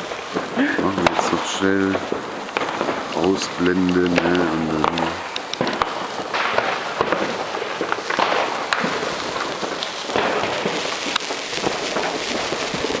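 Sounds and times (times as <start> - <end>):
sparkler fizzing and crackling: 0.0 - 13.0.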